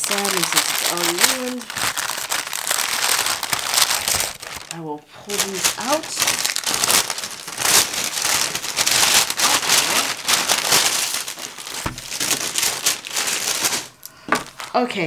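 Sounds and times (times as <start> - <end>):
paper crinkling and rustling: 0.0 - 15.0.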